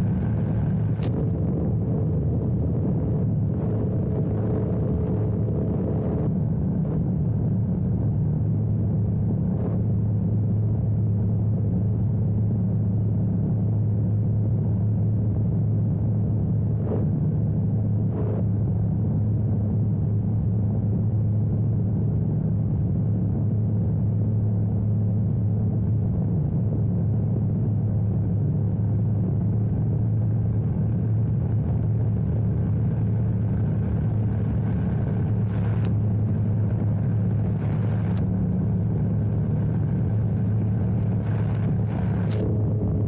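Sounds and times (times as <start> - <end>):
aircraft engine and propeller drone: 0.0 - 43.0.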